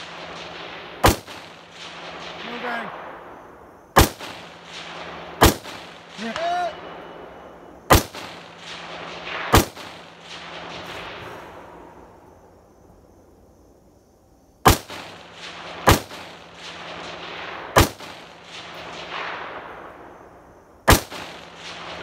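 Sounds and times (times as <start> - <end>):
rifle shots: 0.0 - 12.2, 14.6 - 22.0
rolling gunshot echo: 0.0 - 12.2, 14.6 - 20.2, 20.9 - 22.0.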